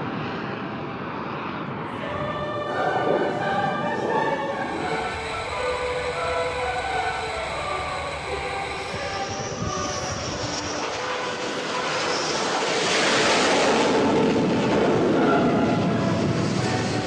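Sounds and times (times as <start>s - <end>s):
jet fighter engines rushing: 0.0s - 17.0s.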